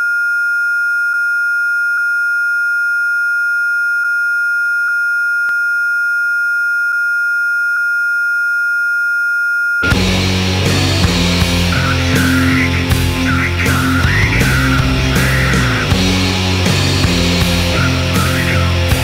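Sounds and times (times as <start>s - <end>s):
high-pitched sine tone: 0.0s - 19.0s.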